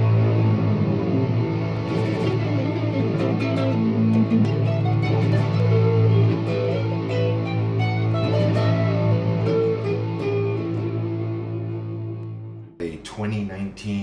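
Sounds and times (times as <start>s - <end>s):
electric guitar melody: 0.0s - 12.8s.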